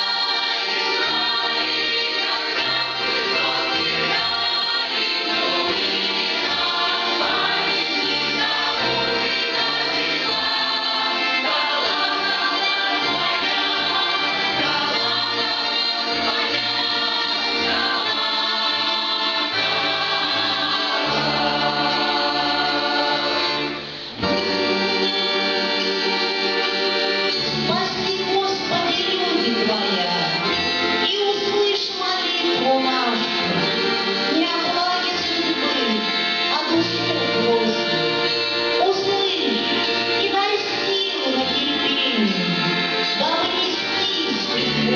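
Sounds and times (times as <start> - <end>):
folk choir singing: 0.0 - 44.9
instrumental accompaniment: 0.0 - 44.9.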